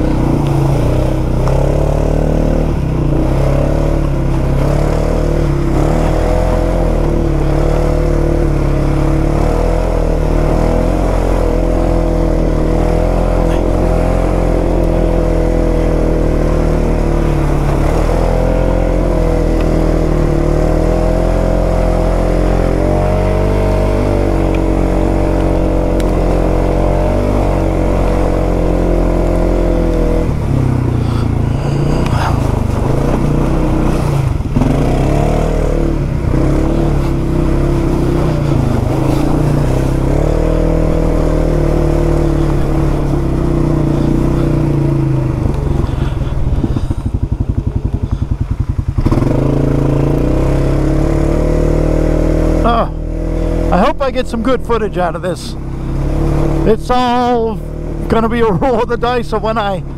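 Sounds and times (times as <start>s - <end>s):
engine running under load: 0.0s - 59.9s.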